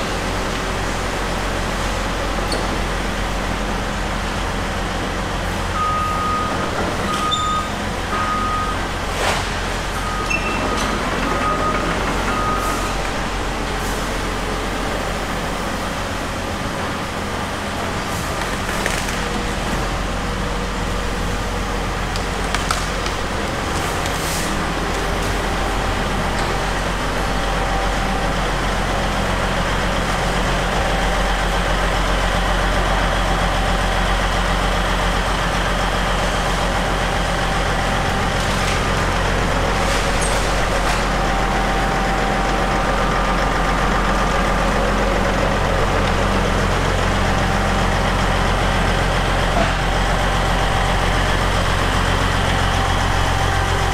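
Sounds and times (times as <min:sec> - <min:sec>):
diesel machinery engine drone: 0:00.0 - 0:53.9.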